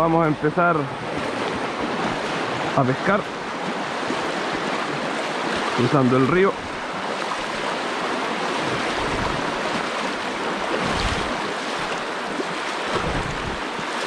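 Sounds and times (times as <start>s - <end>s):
river rushing over rocks: 0.0s - 14.0s.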